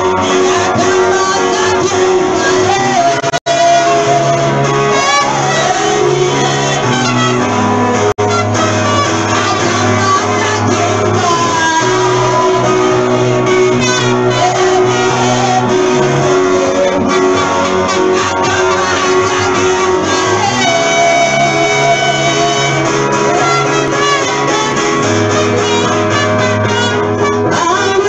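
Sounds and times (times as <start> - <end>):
guitar: 0.0 - 28.0
steady bass notes: 0.0 - 28.0
voices singing: 0.0 - 28.0.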